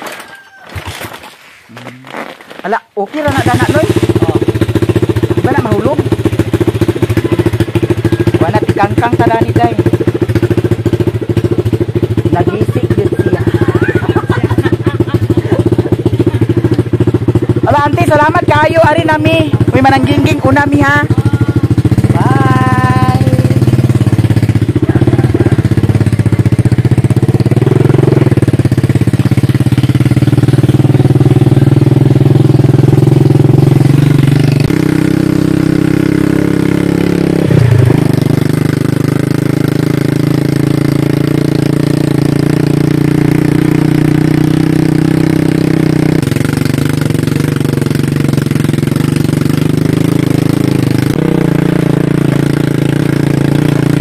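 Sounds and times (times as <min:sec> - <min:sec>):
motorcycle engine running: 0:01.7 - 0:54.0.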